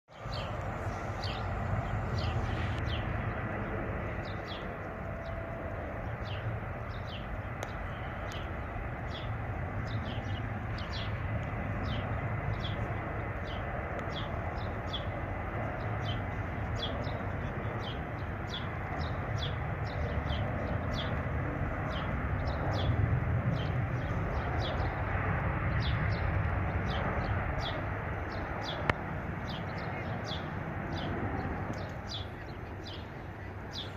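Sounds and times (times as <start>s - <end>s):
jet engines rumbling: 0.1s - 33.9s.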